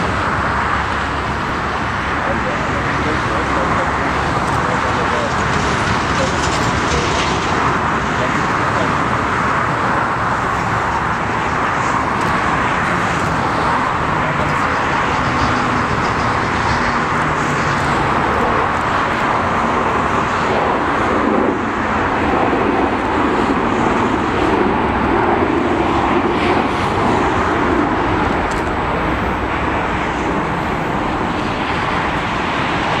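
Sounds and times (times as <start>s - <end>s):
jet engines at take-off: 0.0s - 33.0s.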